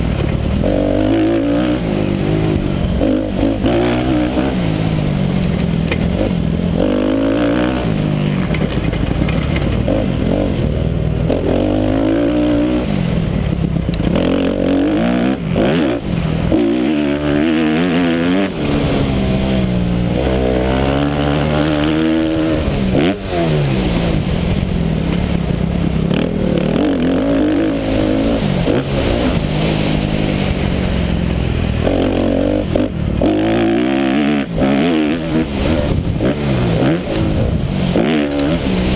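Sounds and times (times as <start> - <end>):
motorbike engine revving: 0.0 - 38.9
wind and dirt noise: 0.0 - 38.9.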